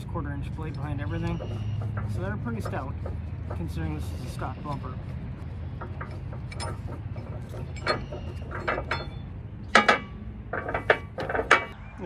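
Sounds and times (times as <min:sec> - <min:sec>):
metal shackle clinking on steel: 0:00.5 - 0:11.8.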